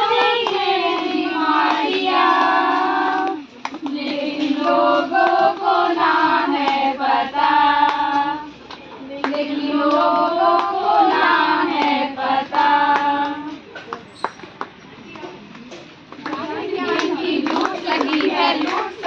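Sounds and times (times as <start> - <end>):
hand claps: 0.0 - 6.9, 7.5 - 19.0
women singing together: 0.0 - 13.6, 16.2 - 19.0.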